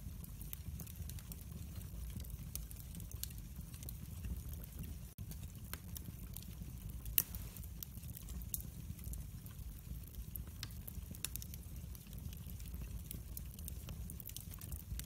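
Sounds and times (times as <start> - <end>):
fire flame rumble: 0.0 - 15.0
wood crackling and popping: 0.0 - 15.0.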